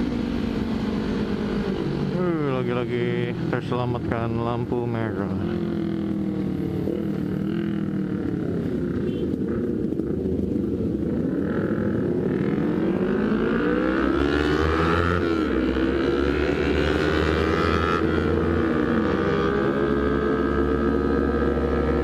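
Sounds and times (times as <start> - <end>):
low wind rumble: 0.0 - 22.0
motorcycle engine revving: 0.0 - 22.0.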